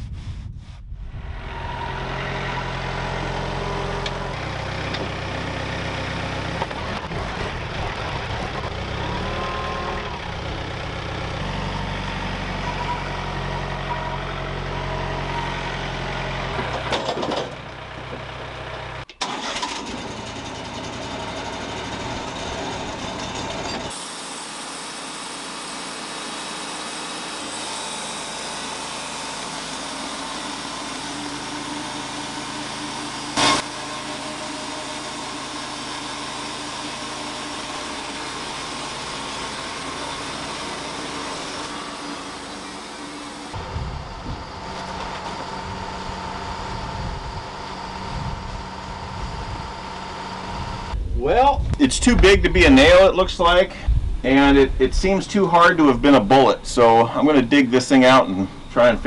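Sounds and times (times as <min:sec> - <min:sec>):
tractor engine running: 0:01.1 - 0:59.0
band sawmill running: 0:01.3 - 0:59.0.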